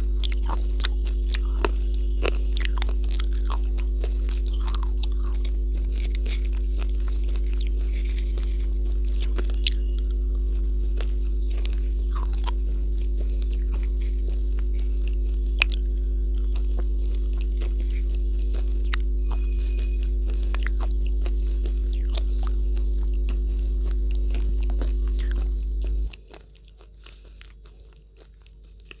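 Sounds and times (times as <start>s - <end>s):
biting crunching and chewing: 0.0s - 29.0s
low electrical hum: 0.0s - 29.0s.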